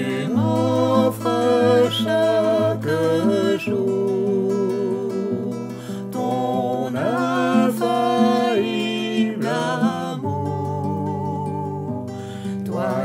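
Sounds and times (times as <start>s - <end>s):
acoustic guitar: 0.0s - 13.0s
person singing worship song: 0.0s - 13.0s.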